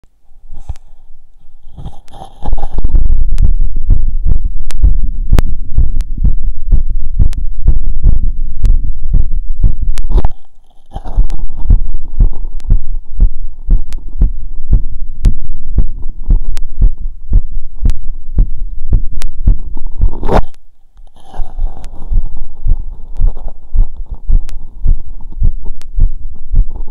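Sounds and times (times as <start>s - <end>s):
heartbeat through stethoscope: 1.8s - 20.6s, 21.3s - 26.9s.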